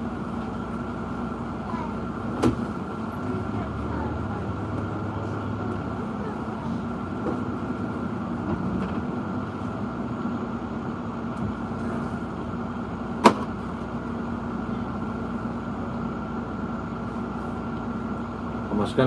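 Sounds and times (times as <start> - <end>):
vehicle idling hum: 0.0 - 19.0.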